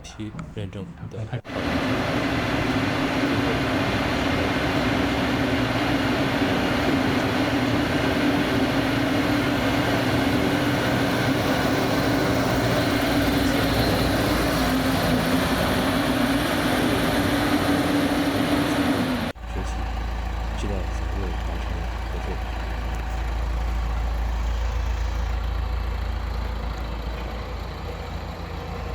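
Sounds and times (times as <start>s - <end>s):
diesel engine droning: 0.0s - 28.9s.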